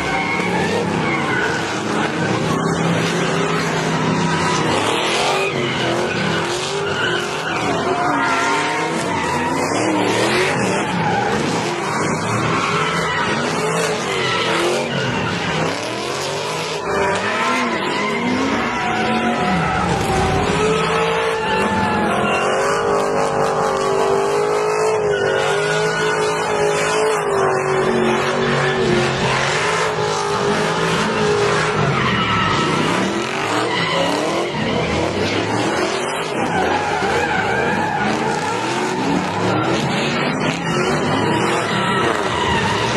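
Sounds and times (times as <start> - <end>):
tires squealing: 0.0 - 42.9.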